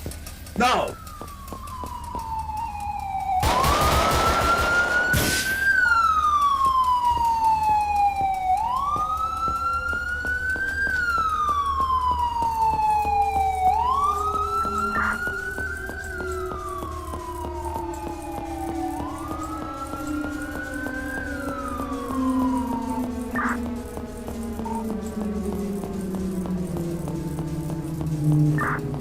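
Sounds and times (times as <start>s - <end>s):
police siren wailing: 0.0s - 29.0s.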